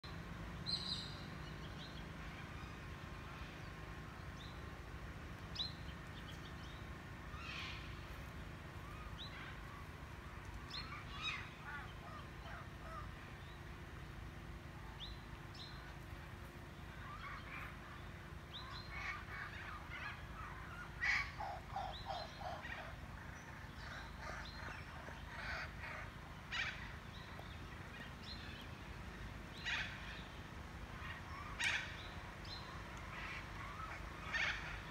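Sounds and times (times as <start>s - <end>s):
wild birds chirping: 0.0s - 34.9s.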